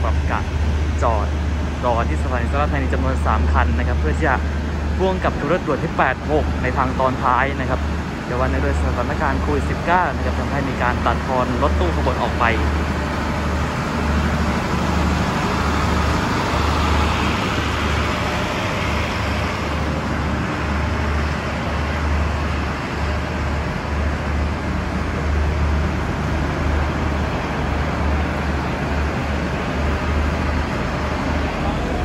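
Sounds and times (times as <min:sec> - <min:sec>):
train mechanical running noise: 0:00.0 - 0:32.0.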